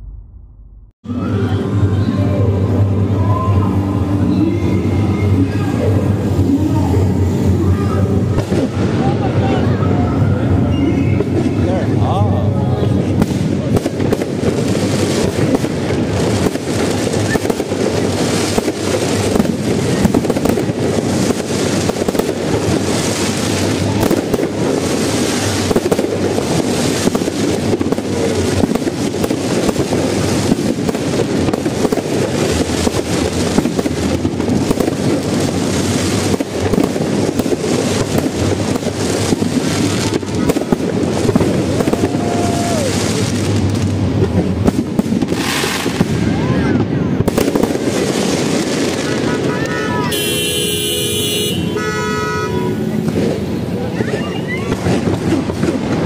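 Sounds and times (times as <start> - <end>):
fireworks bangs and crackles: 1.1 - 56.0.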